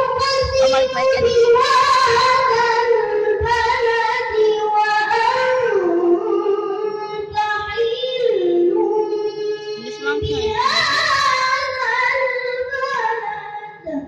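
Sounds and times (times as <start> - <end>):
boy reciting melodically: 0.0 - 14.0.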